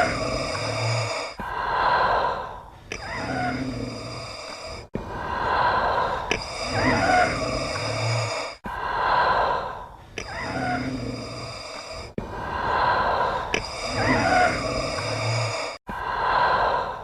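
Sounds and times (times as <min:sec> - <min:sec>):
mechanical respirator breathing: 0:00.0 - 0:17.0.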